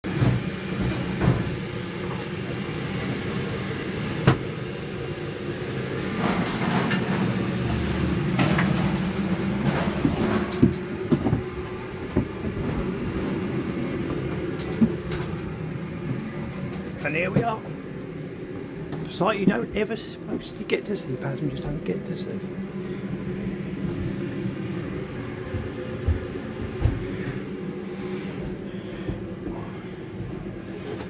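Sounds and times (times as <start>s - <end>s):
aircraft cabin air hum: 0.1s - 31.0s.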